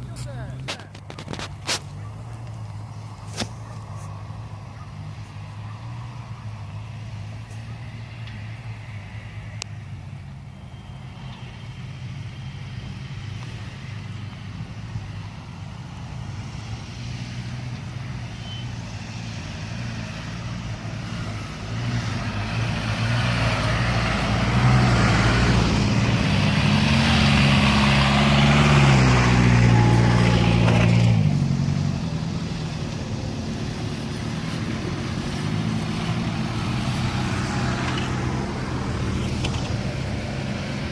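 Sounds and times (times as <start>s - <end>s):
off-road vehicle engines passing: 0.0s - 40.9s.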